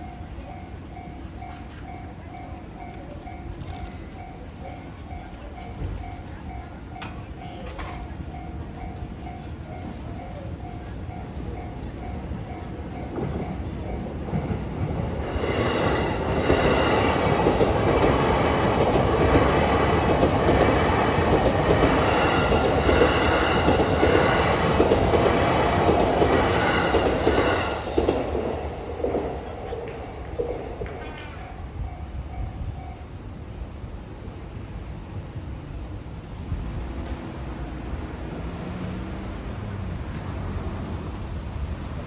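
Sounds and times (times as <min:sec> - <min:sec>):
crossing warning bell: 0:00.0 - 0:35.2
electric train passing: 0:00.0 - 0:42.0.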